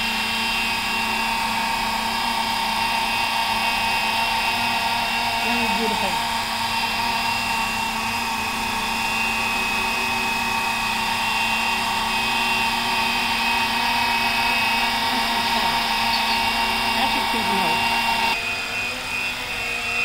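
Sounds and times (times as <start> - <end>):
model helicopter rotor whine: 0.0 - 13.6, 14.3 - 20.0.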